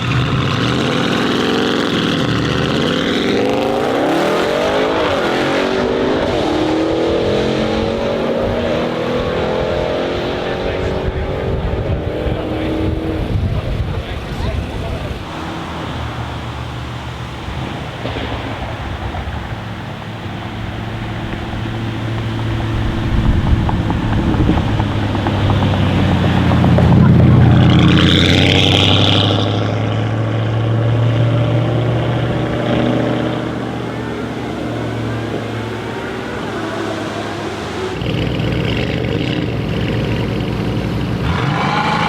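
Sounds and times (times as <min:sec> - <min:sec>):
car engine passing by: 0:00.0 - 0:42.0.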